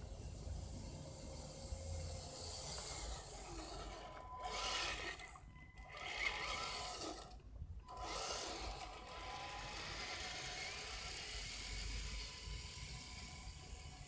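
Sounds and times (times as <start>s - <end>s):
toy truck motor whirring: 0.0s - 14.0s.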